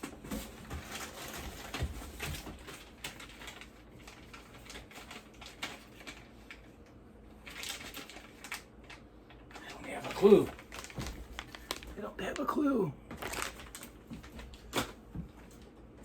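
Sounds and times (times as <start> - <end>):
cables and packaging rustling: 0.0 - 16.0.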